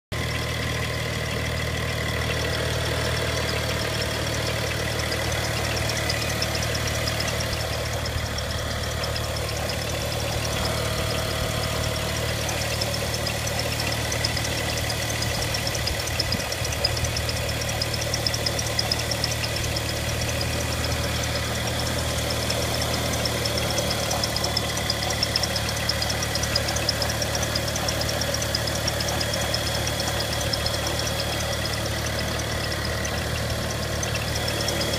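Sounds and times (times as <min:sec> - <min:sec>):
car engine idling: 0:00.1 - 0:34.9
rapid light engine ticking: 0:00.1 - 0:34.9.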